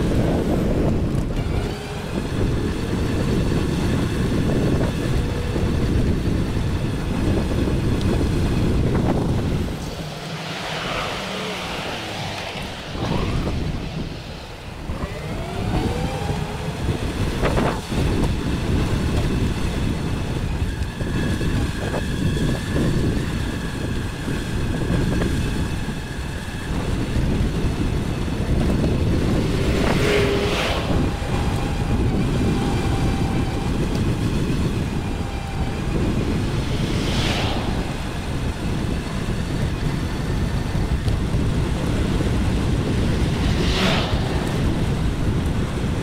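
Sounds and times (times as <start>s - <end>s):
rolling road noise: 0.0s - 46.0s
wind buffeting microphone: 0.0s - 46.0s.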